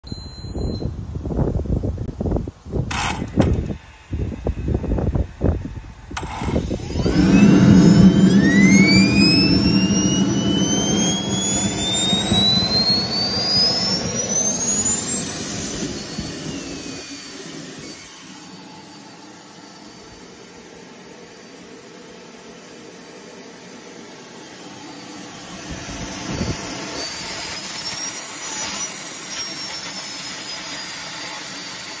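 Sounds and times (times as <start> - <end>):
jet turbine whine: 2.9 - 32.0.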